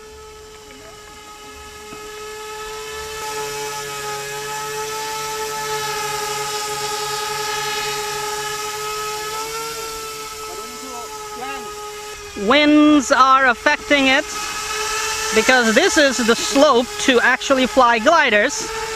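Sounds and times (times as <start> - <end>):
drone motors and propellers whining: 0.0 - 18.9.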